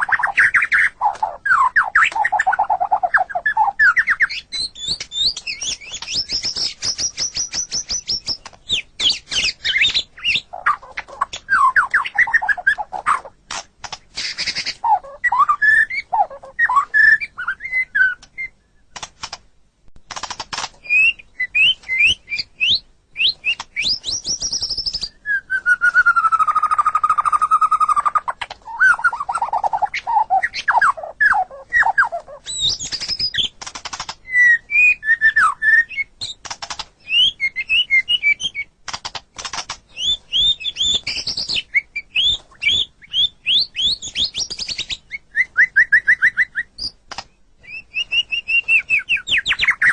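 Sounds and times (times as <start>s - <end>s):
songbird singing whistled phrases: 0.0s - 13.3s, 14.2s - 18.9s, 20.8s - 33.6s, 34.2s - 36.4s, 37.0s - 38.7s, 39.9s - 47.0s, 47.6s - 49.9s.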